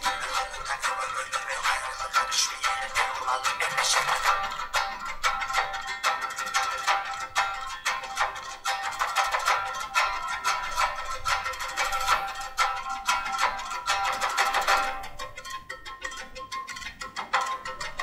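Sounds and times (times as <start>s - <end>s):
instrumental music with repeated notes: 0.0s - 18.0s.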